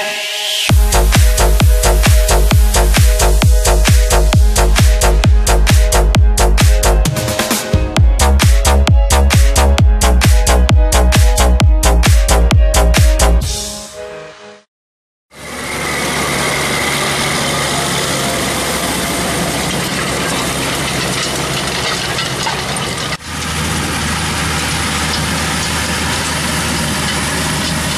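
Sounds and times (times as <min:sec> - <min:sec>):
tractor diesel engine under load: 0:00.7 - 0:12.9, 0:15.3 - 0:27.9.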